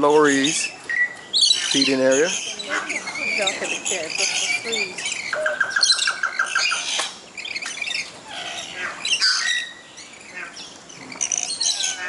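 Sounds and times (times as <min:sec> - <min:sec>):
parrots squawking and screeching: 0:01.4 - 0:12.0.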